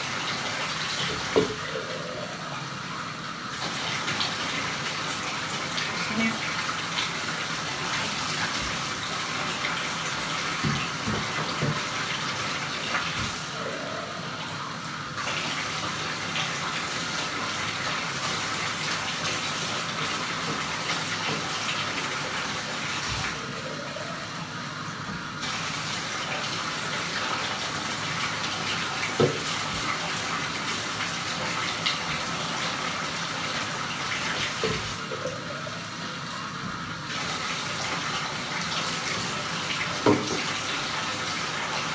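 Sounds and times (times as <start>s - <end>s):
water running into bathtub: 0.0s - 41.9s.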